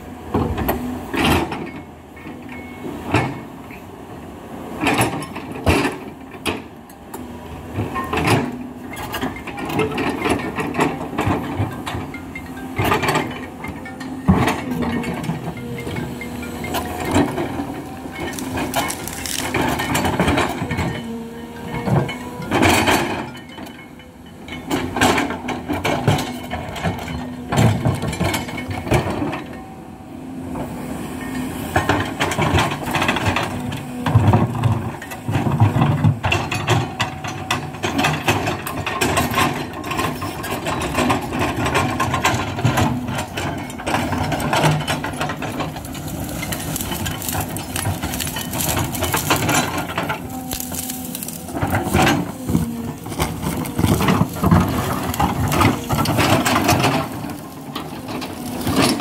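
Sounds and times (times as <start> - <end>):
excavator diesel engine running: 0.0 - 59.0
excavator digging knocks and clanks: 0.0 - 59.0.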